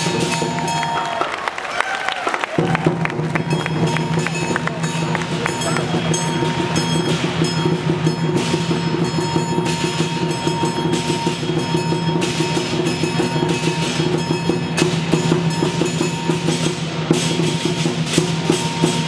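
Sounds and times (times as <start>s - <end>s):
large drum beaten fast: 0.0s - 1.0s, 2.6s - 19.0s
cymbals crashing: 0.0s - 19.0s.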